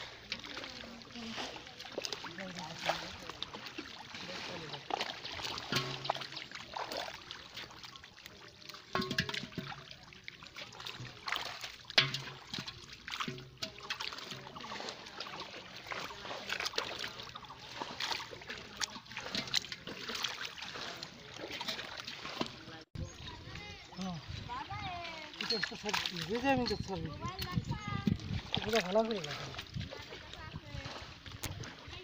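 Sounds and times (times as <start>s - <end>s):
water trickling drips: 0.0s - 22.2s, 23.1s - 31.8s
hands splashing in muddy water: 0.0s - 22.9s, 25.3s - 32.0s.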